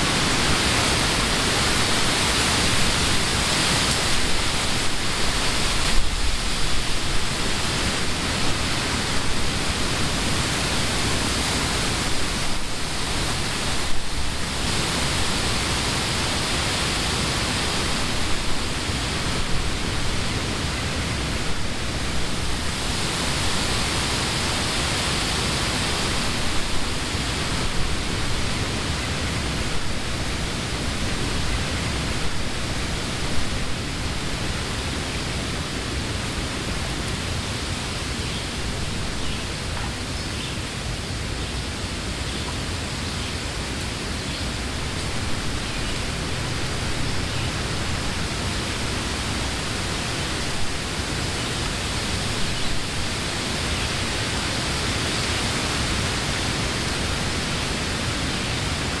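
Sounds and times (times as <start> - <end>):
wind rustling leafy trees: 0.0 - 59.0.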